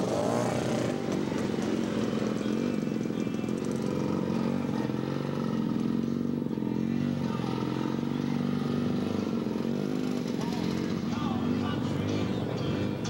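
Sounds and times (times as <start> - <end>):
snowmobile engines droning: 0.0 - 13.0.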